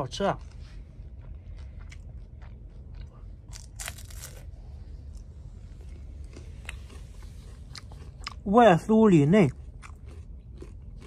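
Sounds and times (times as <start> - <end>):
person crunching fried food: 0.0 - 11.0.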